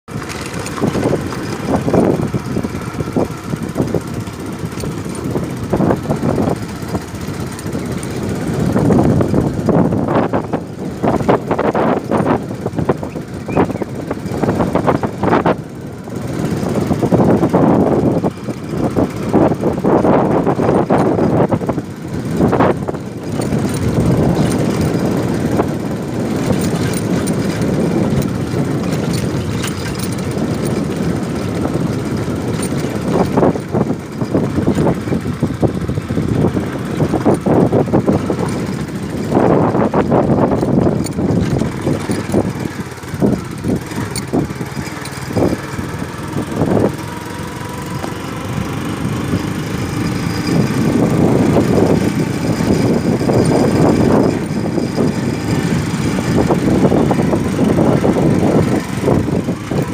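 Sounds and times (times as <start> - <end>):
road noise: 0.0 - 59.9
vehicle engine running: 0.0 - 59.9
rattling: 0.1 - 59.9.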